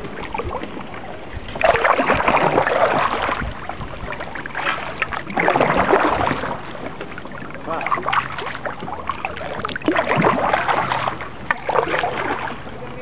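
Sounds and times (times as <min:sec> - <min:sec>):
kayak paddle splashing in water: 0:00.0 - 0:13.0.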